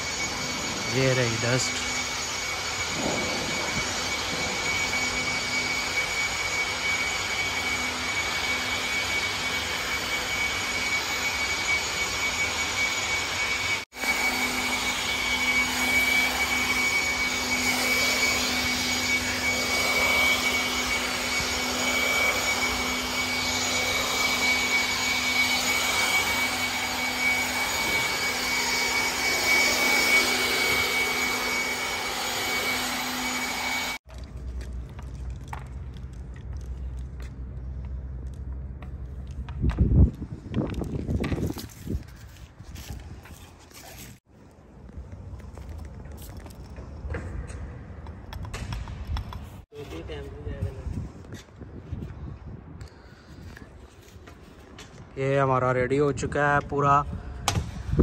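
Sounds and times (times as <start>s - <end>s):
blower high whine: 0.0s - 58.0s.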